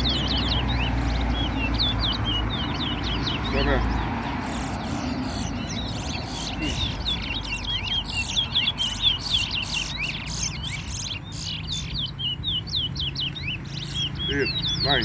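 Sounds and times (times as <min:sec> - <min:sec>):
bird chips: 0:00.0 - 0:15.0
songbirds singing whistled notes: 0:00.0 - 0:15.0.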